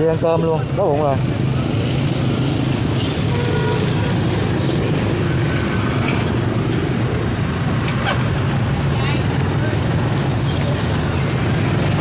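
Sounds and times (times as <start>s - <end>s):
motorbike engines droning: 0.0s - 12.0s.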